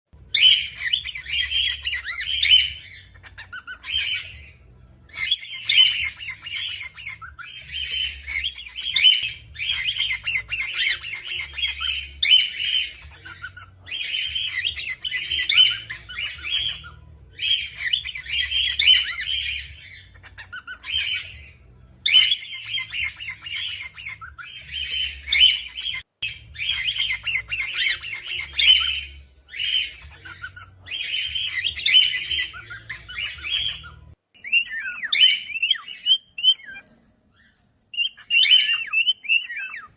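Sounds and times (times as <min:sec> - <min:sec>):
cockatiel chirps and whistles: 0:00.3 - 0:04.5, 0:05.1 - 0:21.5, 0:22.1 - 0:36.9, 0:37.9 - 0:39.9.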